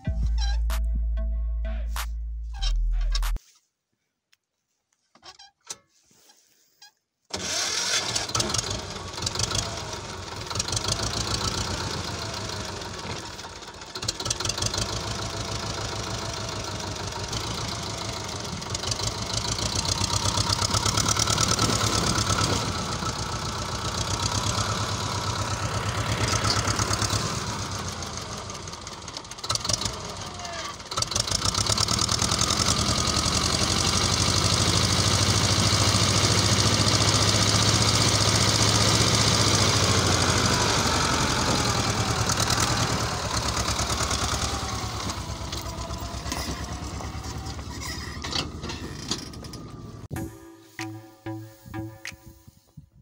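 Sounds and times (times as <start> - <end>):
tractor diesel engine knocking: 7.4 - 51.0.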